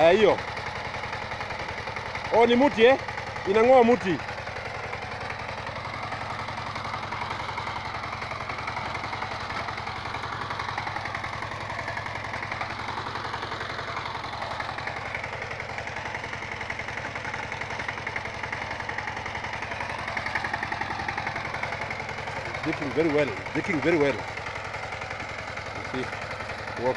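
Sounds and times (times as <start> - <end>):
diesel engine chugging: 0.0 - 26.9.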